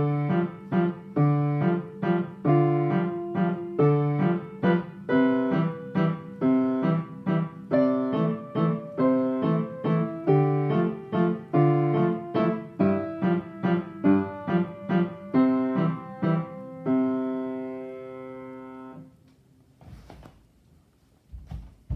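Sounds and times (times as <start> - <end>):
solo piano waltz: 0.0 - 19.2.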